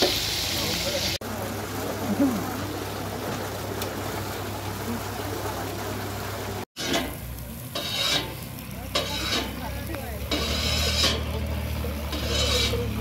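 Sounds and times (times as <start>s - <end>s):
kebabs sizzling in oil: 0.0s - 13.0s.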